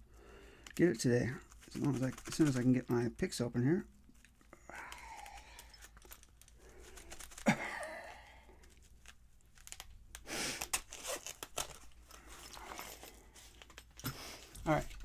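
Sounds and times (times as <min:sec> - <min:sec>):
rustling: 0:00.7 - 0:07.6, 0:08.3 - 0:15.0.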